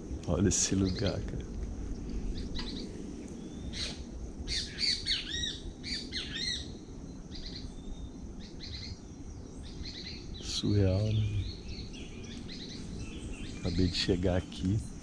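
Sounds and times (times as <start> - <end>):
low background rumble: 0.0 - 15.0
wild birds chirping: 0.0 - 15.0.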